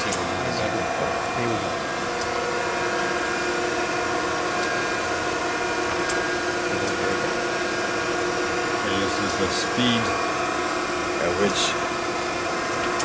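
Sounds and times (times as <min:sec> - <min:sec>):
surface grinder whining hum: 0:00.0 - 0:13.0.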